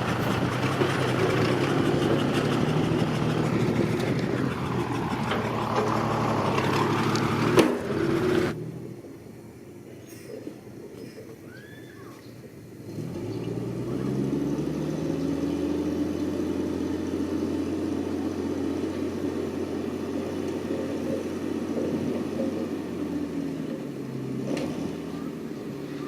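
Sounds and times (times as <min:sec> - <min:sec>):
construction machine engine running: 0:00.0 - 0:10.0, 0:12.7 - 0:26.0.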